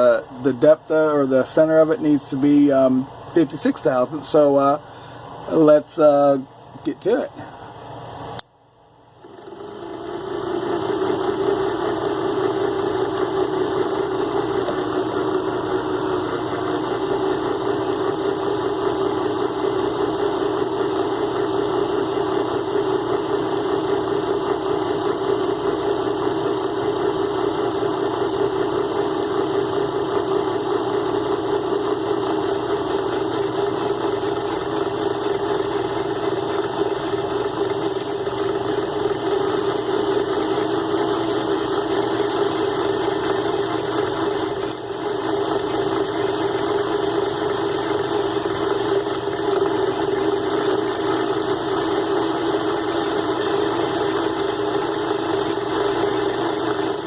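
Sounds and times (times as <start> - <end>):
lathe motor running: 9.0 - 57.0.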